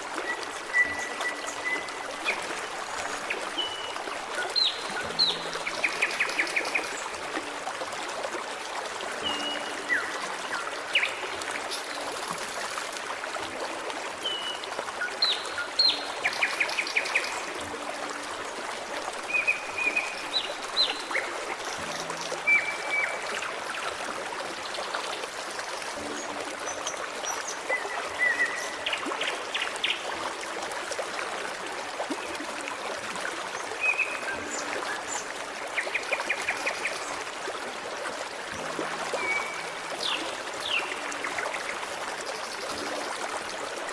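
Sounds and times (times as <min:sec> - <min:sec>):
stream running over rocks: 0:00.0 - 0:43.9.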